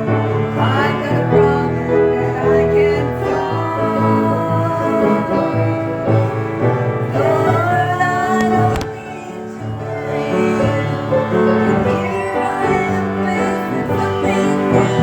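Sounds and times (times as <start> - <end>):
gospel singing voices: 0.0 - 15.0.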